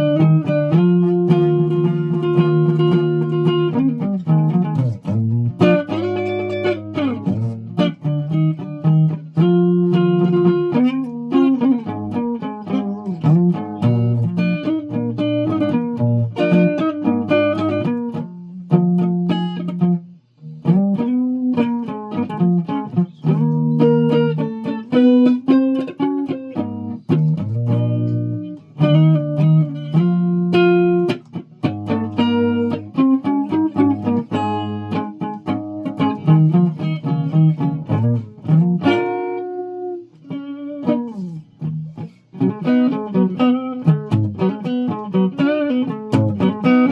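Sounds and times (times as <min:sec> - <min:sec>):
guitar plucked notes and chords: 0:00.0 - 0:46.9.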